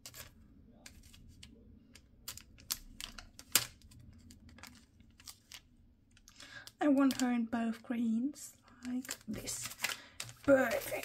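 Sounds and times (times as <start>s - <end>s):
paper rustling: 0.0s - 7.3s, 8.7s - 11.0s.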